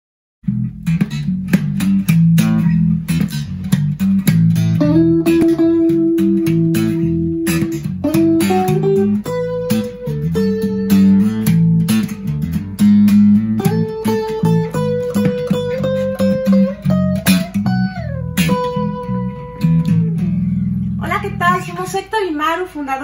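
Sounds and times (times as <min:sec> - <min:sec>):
electric lead guitar: 0:00.4 - 0:22.1
plucked bass line: 0:00.4 - 0:22.5.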